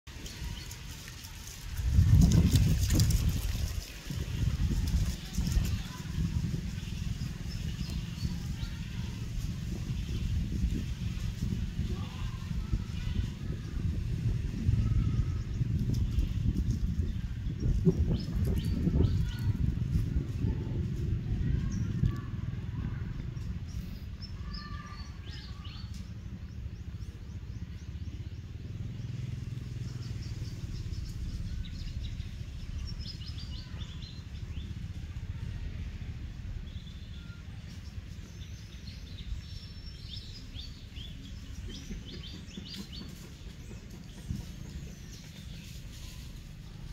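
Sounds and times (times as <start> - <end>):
small birds chirping: 0.1 - 46.9
steady low rumble: 0.1 - 46.9.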